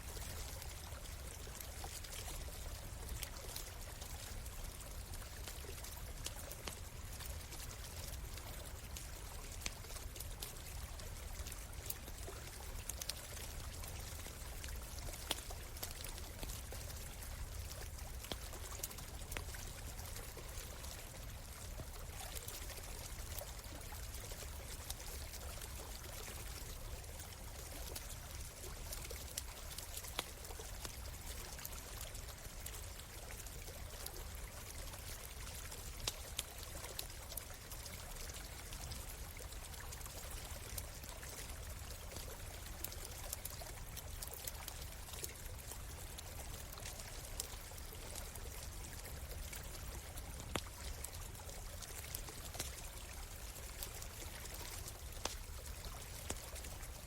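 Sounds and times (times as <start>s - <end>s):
shallow stream running: 0.0s - 57.0s
campfire crackling: 0.4s - 57.0s.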